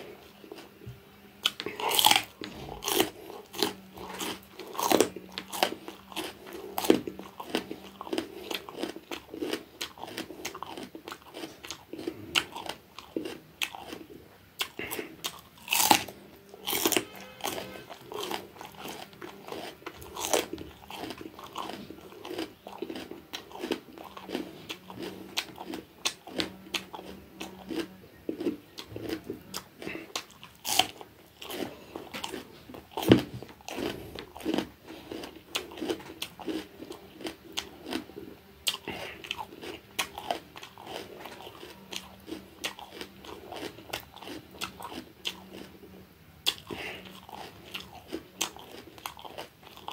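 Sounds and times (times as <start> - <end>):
crisp chewing crunches: 0.0 - 49.9.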